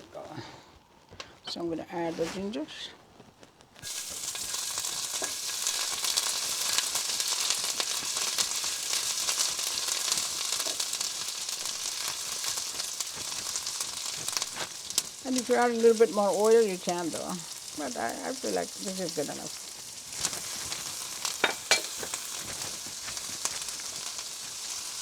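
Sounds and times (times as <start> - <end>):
ginger sizzling in hot oil: 1.0 - 25.0.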